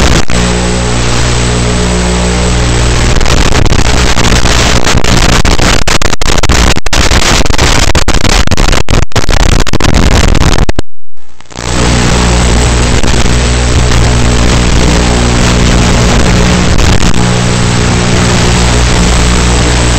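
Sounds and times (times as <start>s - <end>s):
receiver static hiss: 0.0s - 19.9s.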